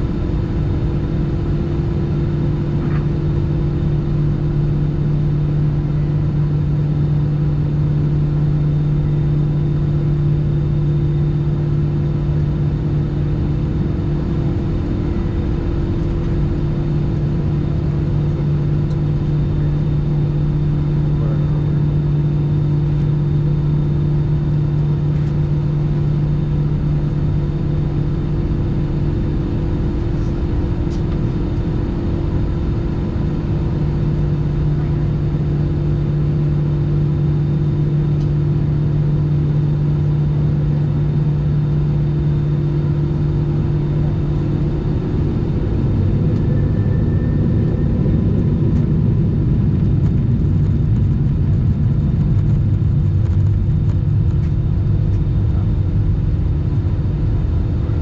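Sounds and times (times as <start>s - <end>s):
higher steady hum: 0.0s - 58.0s
low engine drone: 0.0s - 58.0s.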